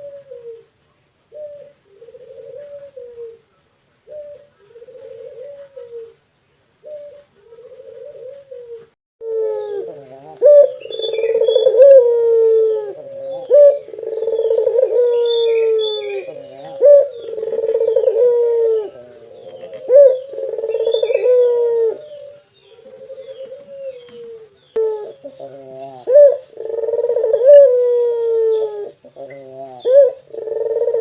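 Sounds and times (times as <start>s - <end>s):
dove cooing: 0.0s - 6.2s, 6.8s - 31.0s.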